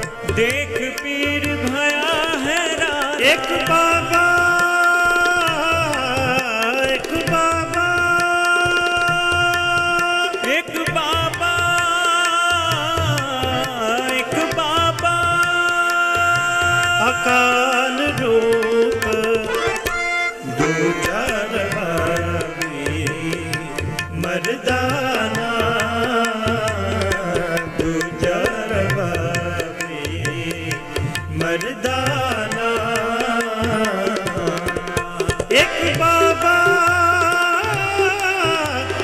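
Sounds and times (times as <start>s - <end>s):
harmonium melody: 0.0s - 39.0s
person singing: 0.0s - 39.0s
tabla beat: 0.0s - 39.0s.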